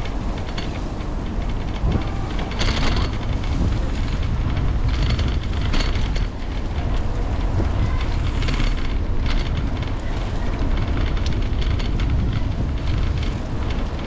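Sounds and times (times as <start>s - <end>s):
bicycle tyre noise on path: 0.0s - 14.0s
light clicks and rattles: 0.0s - 14.0s
wind rushing over microphone: 0.0s - 14.0s.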